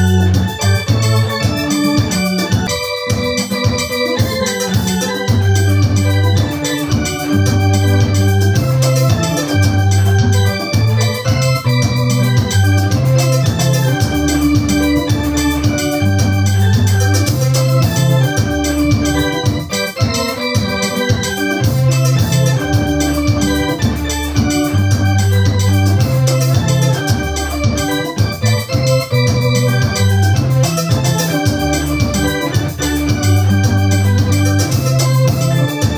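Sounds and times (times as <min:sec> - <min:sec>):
deep bass line: 0:00.0 - 0:02.7, 0:05.2 - 0:19.4, 0:21.6 - 0:35.9
electronic keyboard playing hymn chords: 0:00.0 - 0:35.9.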